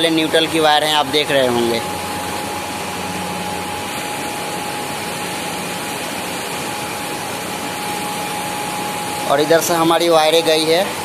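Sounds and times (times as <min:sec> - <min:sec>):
constant high hum: 0:00.0 - 0:11.0
factory machinery drone: 0:00.0 - 0:11.0.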